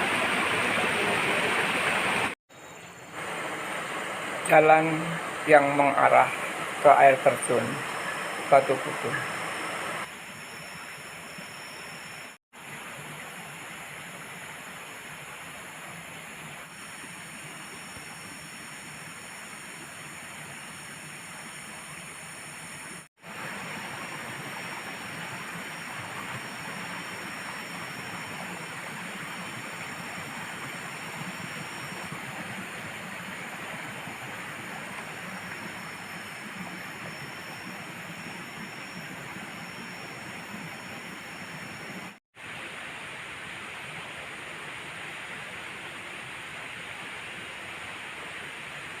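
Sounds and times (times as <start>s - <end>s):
rushing river and waterfall: 0.0s - 2.4s, 3.0s - 10.1s, 12.6s - 49.0s.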